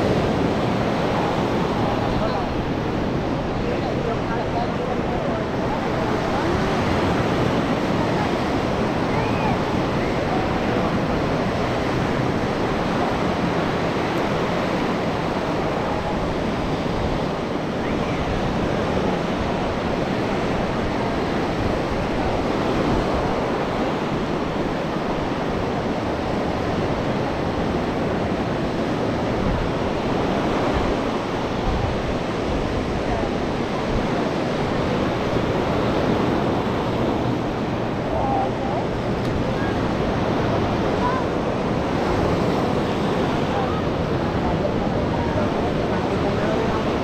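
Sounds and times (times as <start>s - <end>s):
surf washing onto beach: 0.0s - 47.0s
wind noise on microphone: 0.0s - 47.0s.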